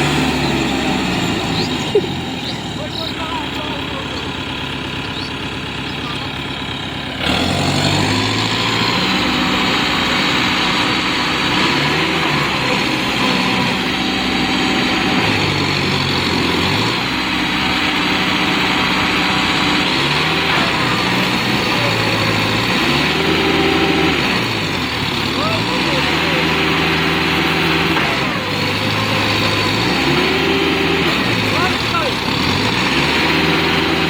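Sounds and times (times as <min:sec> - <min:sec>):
tractor diesel engine straining: 0:00.0 - 0:34.0.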